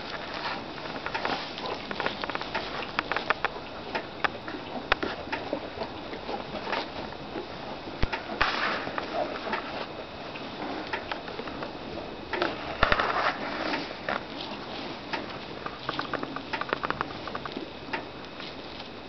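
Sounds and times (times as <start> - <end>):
goats rustling in straw: 0.0 - 16.5.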